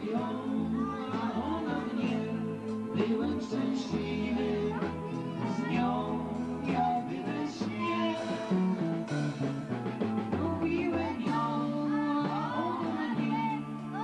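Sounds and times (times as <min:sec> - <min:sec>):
person singing: 0:00.0 - 0:09.2, 0:10.2 - 0:14.0.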